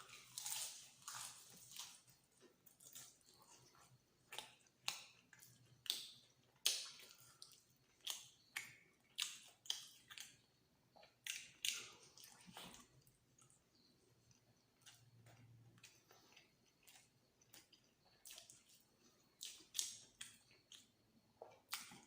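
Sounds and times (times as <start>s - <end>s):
person chewing soft food: 0.0s - 22.0s.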